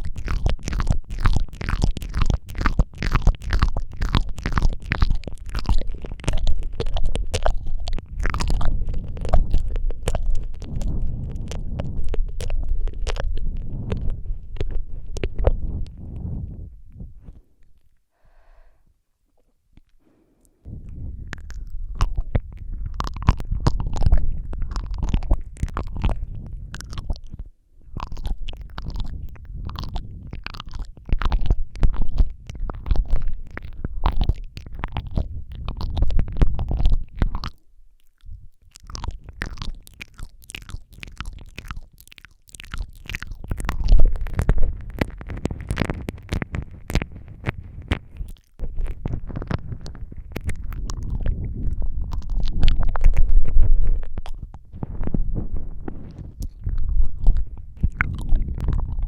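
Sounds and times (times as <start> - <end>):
low rumble: 0.0 - 18.0, 20.6 - 37.5, 43.0 - 59.0
wet mouth clicks and smacks: 0.0 - 18.1, 19.4 - 59.0.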